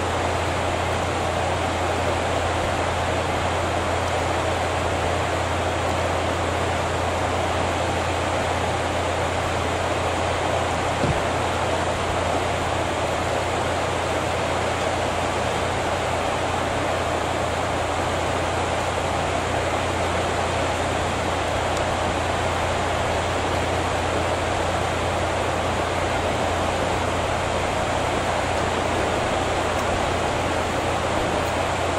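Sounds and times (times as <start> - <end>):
constant low hum: 0.0 - 31.9
steady rushing noise: 0.0 - 31.9.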